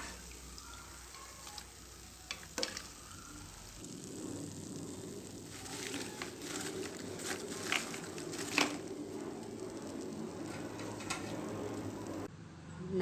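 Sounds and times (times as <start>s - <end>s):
chips deep-frying in oil: 0.0s - 12.3s.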